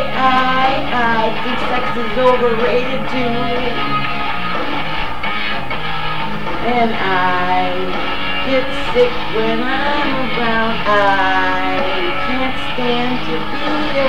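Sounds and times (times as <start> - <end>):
person singing: 0.0 - 4.8, 6.3 - 14.0
rock song with guitar: 0.0 - 14.0.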